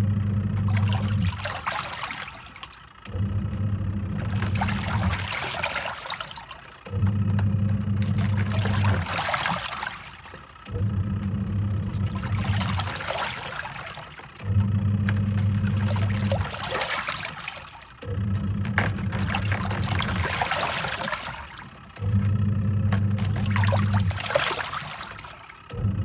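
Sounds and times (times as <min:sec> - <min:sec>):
washing machine motor humming: 0:00.0 - 0:26.0
water sloshing: 0:00.0 - 0:26.0.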